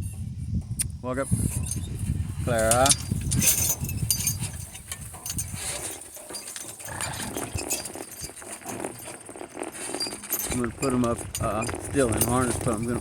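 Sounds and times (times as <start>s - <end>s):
harness hardware clinking and jingling: 1.3s - 13.0s.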